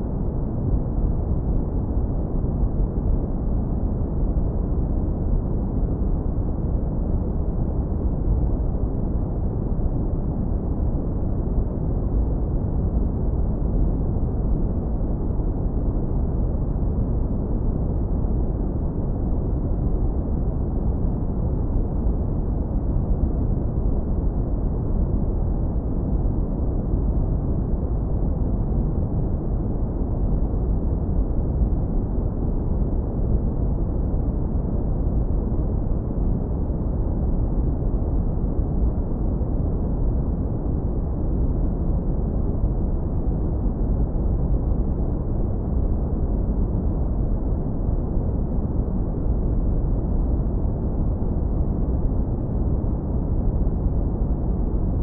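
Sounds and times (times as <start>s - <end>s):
deep brown noise rumble: 0.0s - 55.0s.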